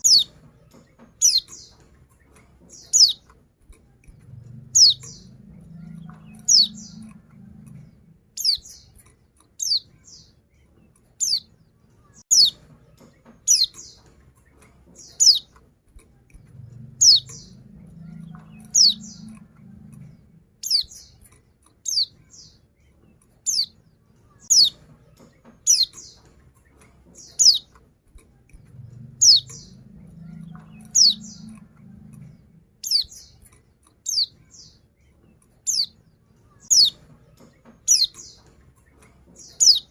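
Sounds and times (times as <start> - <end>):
faint low rumble: 0.0 - 9.0, 9.6 - 39.9.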